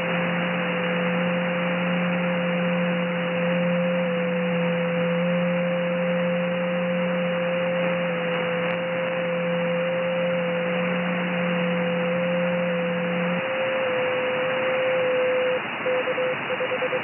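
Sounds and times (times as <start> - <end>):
low hum: 0.0 - 17.0
radio band noise hiss: 0.0 - 17.0
steady tone: 0.0 - 17.0.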